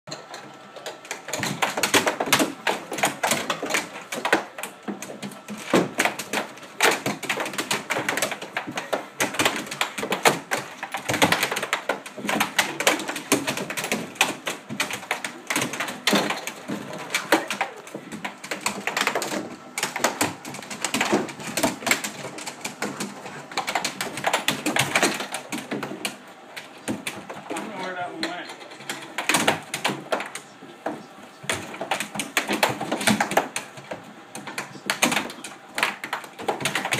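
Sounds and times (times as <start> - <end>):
air hockey puck clacking: 0.1 - 36.9.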